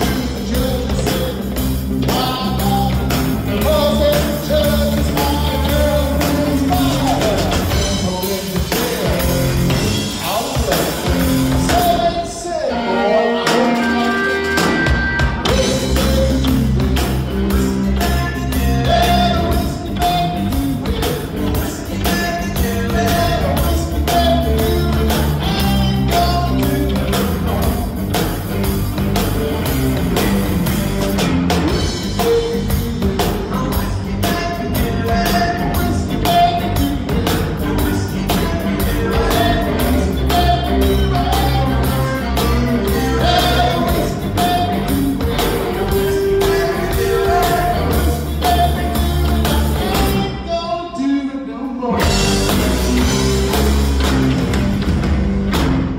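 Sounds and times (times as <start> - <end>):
drum kit with cymbals: 0.0 - 12.7, 13.3 - 50.6, 51.9 - 55.9
electric bass: 0.0 - 50.8, 51.8 - 55.9
electric guitar: 0.0 - 50.8, 51.8 - 55.9.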